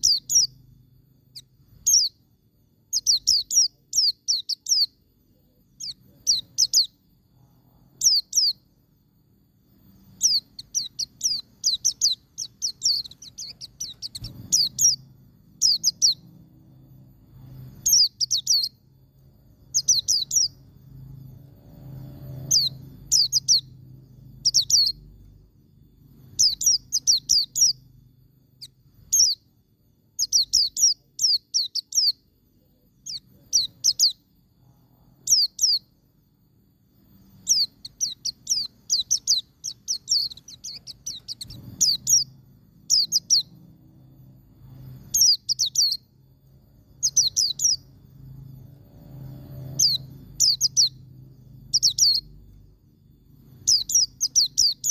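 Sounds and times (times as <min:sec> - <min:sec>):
bird singing high chirps: 0:00.0 - 0:54.9
faint low hum: 0:00.0 - 0:54.9.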